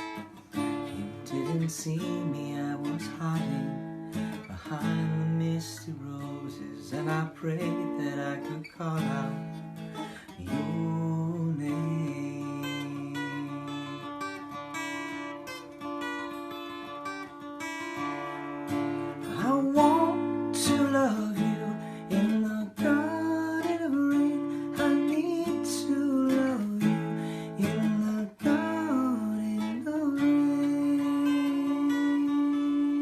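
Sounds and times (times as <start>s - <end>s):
acoustic guitar picked and strummed: 0.0s - 33.0s
person singing: 1.1s - 14.2s, 19.3s - 33.0s.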